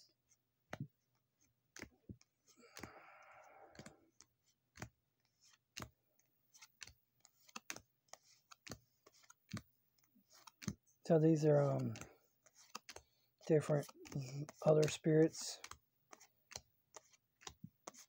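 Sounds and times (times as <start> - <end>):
cards sliding rustle: 0.3 - 3.0, 3.7 - 18.0
cards clicking and tapping: 0.6 - 10.9, 11.5 - 18.0.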